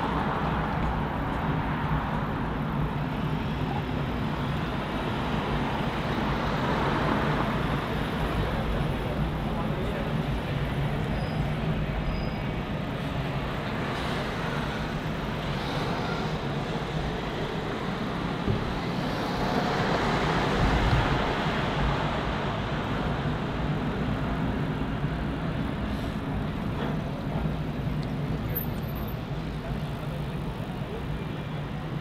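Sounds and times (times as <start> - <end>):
busy street traffic: 0.0 - 32.0.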